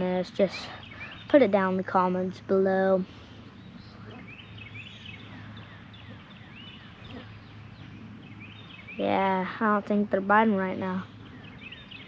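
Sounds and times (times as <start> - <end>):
birds chirping: 0.0 - 12.0
low steady hum: 0.0 - 12.0.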